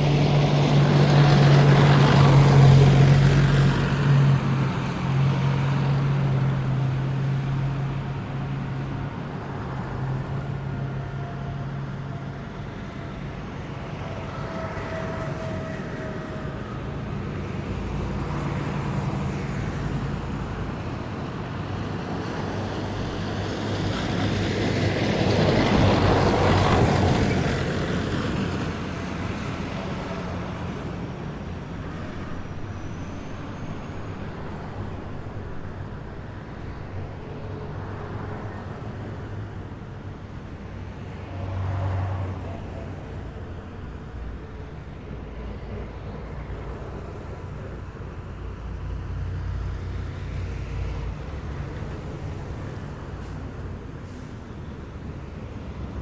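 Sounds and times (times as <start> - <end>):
heavy vehicles driving past: 0.0 - 56.0.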